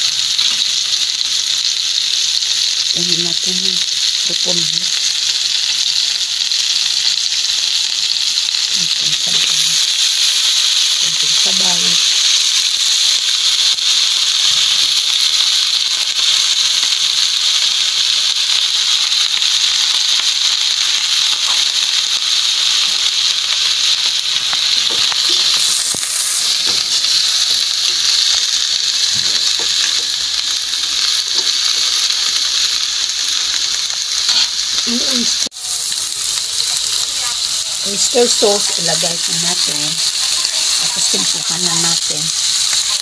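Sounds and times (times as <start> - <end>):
food sizzling in a wok: 0.0 - 43.0.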